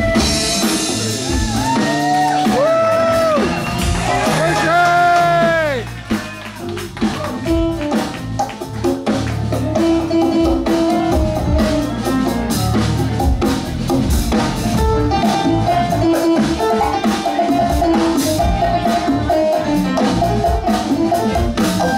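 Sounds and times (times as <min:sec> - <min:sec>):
electric guitar: 0:00.0 - 0:21.9
live funk band playing: 0:00.0 - 0:21.9.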